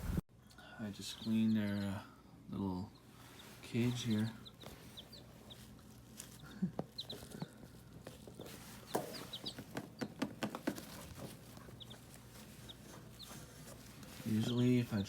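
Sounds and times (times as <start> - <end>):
chicks peeping: 0.8 - 15.0.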